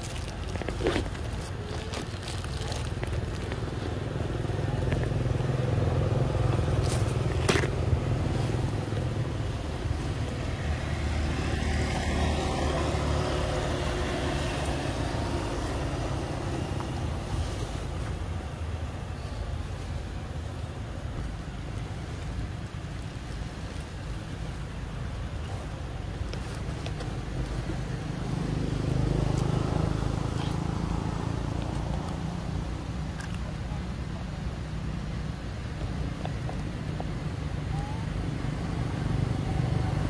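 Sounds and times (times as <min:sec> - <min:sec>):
vehicle engine rumble passing: 0:00.0 - 0:40.0.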